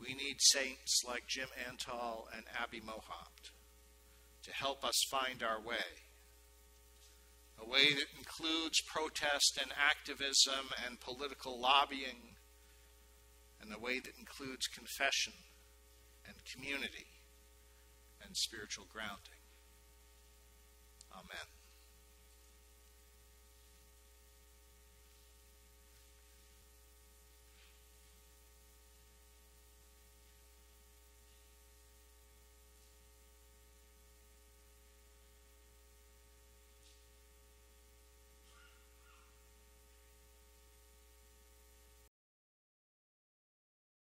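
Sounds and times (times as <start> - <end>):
electrical hum: 0.0 - 42.1.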